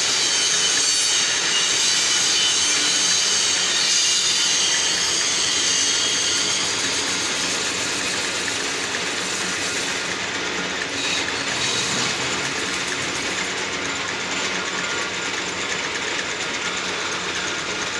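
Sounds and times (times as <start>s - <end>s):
metal lathe clattering: 0.1s - 17.9s.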